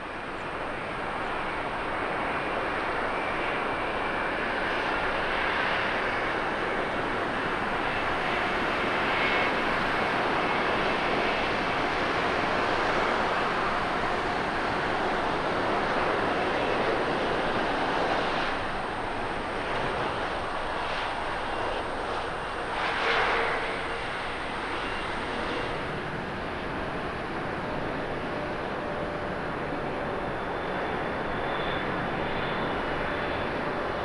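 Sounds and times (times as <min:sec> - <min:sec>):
faint high engine whine: 0:00.0 - 0:34.0
jet engines rushing: 0:00.0 - 0:34.0.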